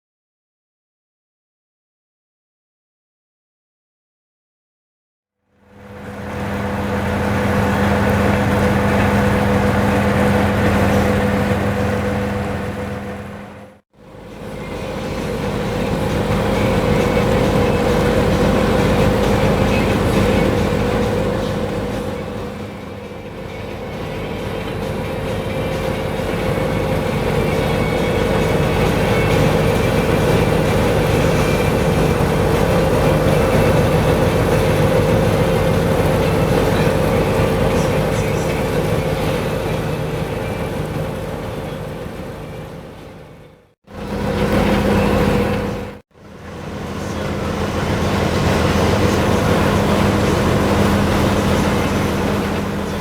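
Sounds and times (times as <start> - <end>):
passing vehicle humming: 5.5 - 53.0.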